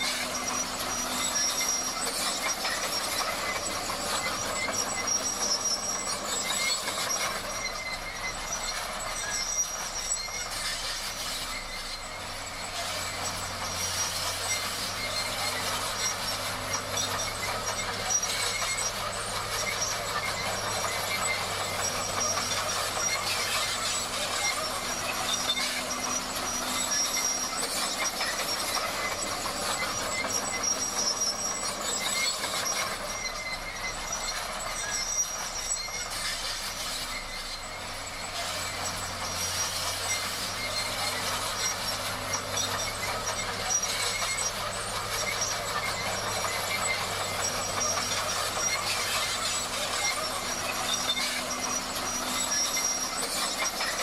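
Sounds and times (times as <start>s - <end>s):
bulldozer engine drone: 0.0s - 54.0s
steel tracks clattering and squealing: 0.0s - 54.0s.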